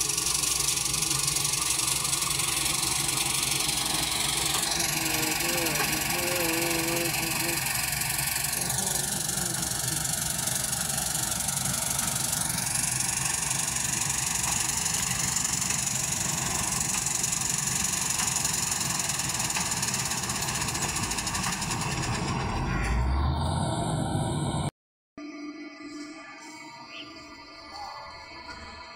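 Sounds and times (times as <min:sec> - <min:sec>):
combine harvester running: 0:00.0 - 0:24.7.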